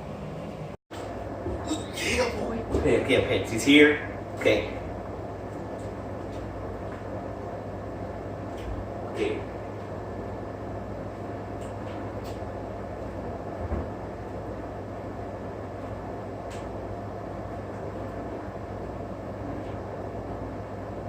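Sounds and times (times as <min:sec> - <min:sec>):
low hum and rumble: 0:00.0 - 0:21.0.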